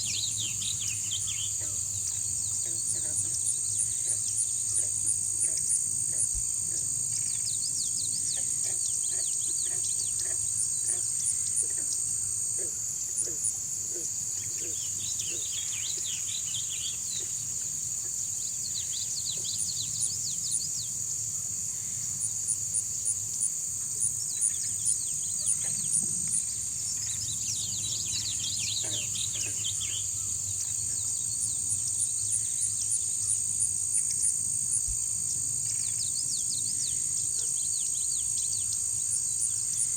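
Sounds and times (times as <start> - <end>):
frog calls: 0.0 - 20.6, 21.3 - 34.9, 35.6 - 39.9
high insect drone: 0.0 - 39.9
rapid insect chirps: 0.0 - 39.9.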